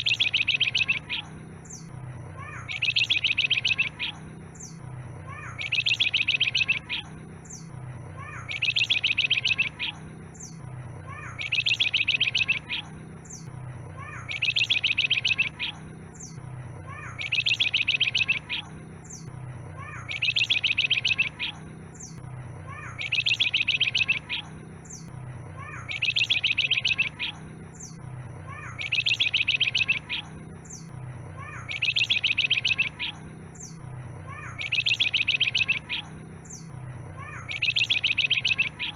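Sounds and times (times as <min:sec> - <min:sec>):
songbird rattling trill: 0:00.0 - 0:38.9.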